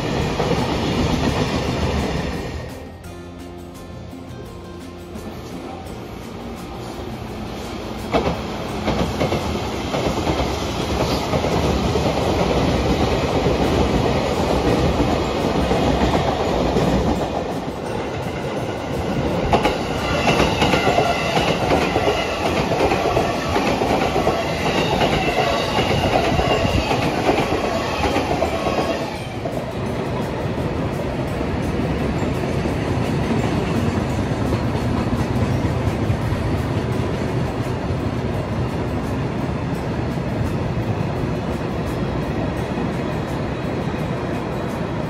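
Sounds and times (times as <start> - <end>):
train wheels rumbling on rail: 0.0 - 3.2, 4.9 - 45.0.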